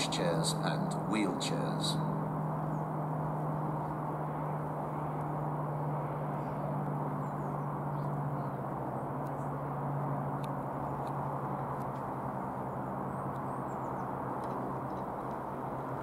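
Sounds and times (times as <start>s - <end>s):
background traffic rumble: 0.0s - 16.0s
distant diesel train drone: 0.0s - 16.0s.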